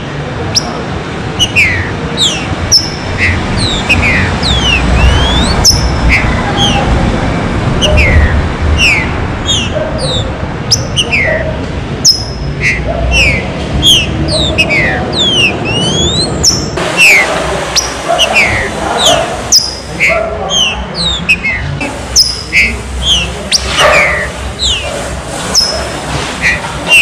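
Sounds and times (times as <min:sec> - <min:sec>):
bird singing whistled notes: 0:01.4 - 0:06.9, 0:07.8 - 0:11.4, 0:12.0 - 0:24.9.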